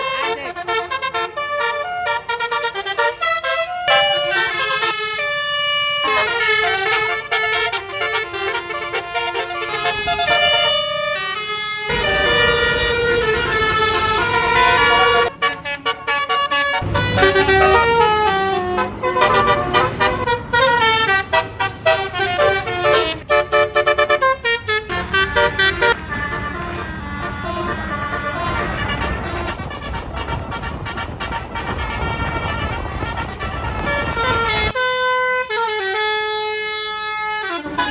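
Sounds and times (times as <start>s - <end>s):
bus air horns playing a melody: 0.0s - 37.9s
deep engine rumble: 3.7s - 34.8s.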